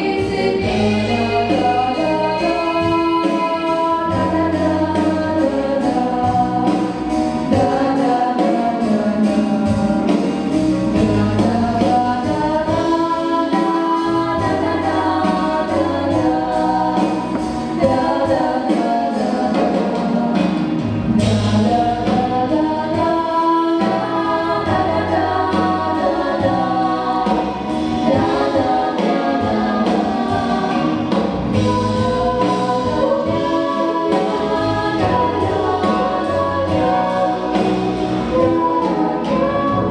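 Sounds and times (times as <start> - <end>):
girls singing together: 0.0 - 6.9, 11.0 - 20.5, 21.2 - 39.9
recorded accompaniment with bass: 0.0 - 39.9.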